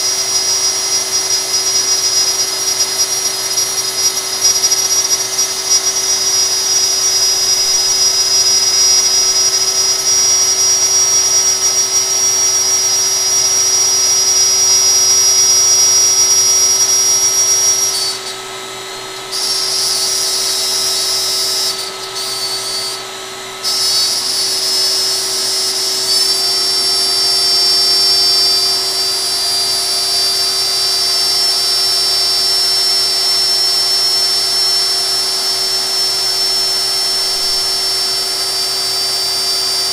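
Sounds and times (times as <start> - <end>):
router high-pitched whine: 0.0 - 39.9.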